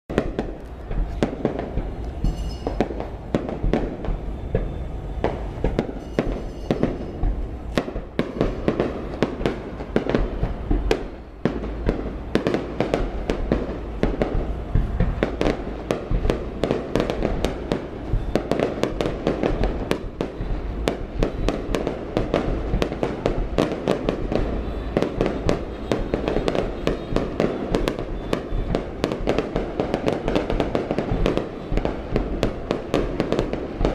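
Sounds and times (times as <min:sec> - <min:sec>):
fireworks bangs and crackles: 0:00.1 - 0:33.9.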